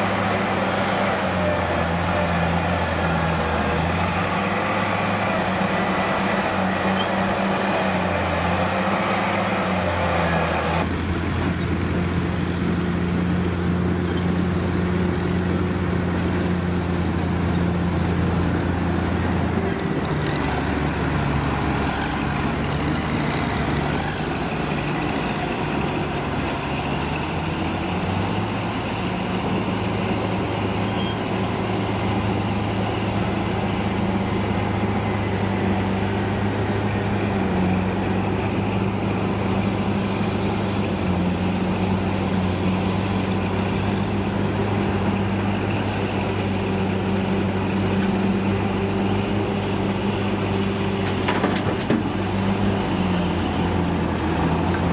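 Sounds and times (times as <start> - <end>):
heavy vehicle engine running: 0.0 - 54.9.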